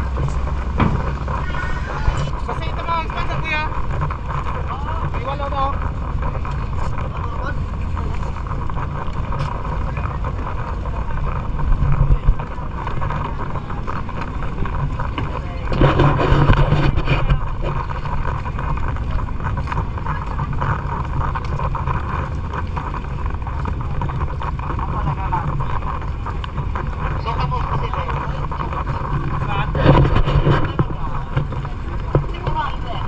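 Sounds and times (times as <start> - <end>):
boat engine running: 0.0 - 33.0
rush of noise: 0.0 - 33.0
wind buffeting microphone: 0.0 - 33.0.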